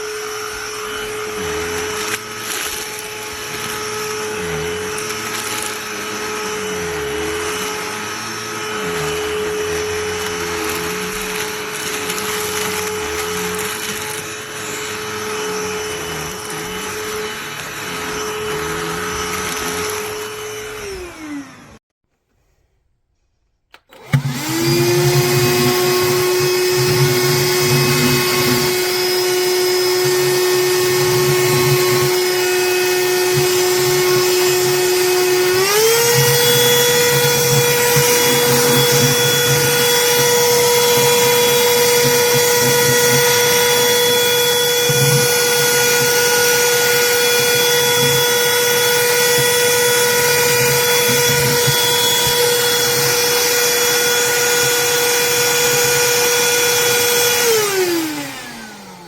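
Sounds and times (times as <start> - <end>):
handheld vacuum motor whining: 0.0 - 21.8, 23.7 - 59.0.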